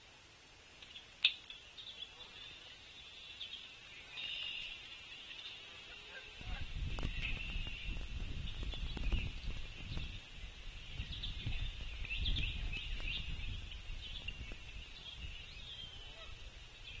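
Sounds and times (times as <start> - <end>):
small birds chirping: 0.7 - 17.0.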